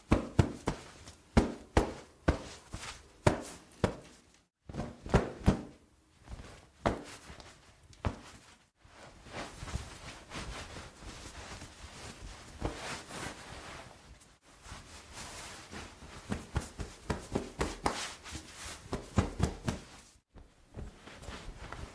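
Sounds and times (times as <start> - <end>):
hair rustling and rubbing: 0.4 - 4.4, 6.2 - 21.9.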